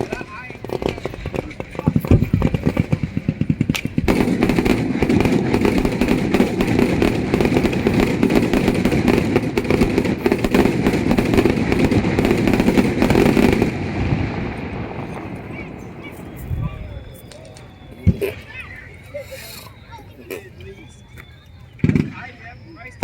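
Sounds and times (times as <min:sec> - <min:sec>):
fireworks crackling bangs: 0:00.0 - 0:23.0.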